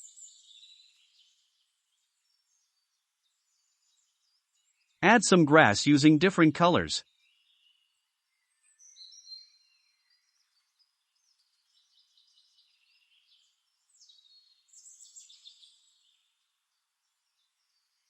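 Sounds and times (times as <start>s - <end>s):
faint birdsong chirps: 0.0s - 5.0s, 7.1s - 18.0s.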